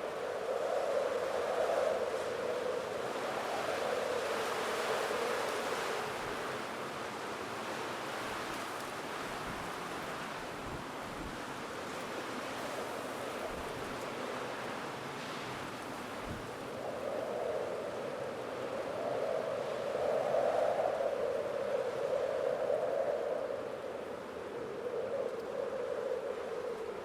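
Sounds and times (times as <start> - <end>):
howling wind gust: 0.0 - 27.0.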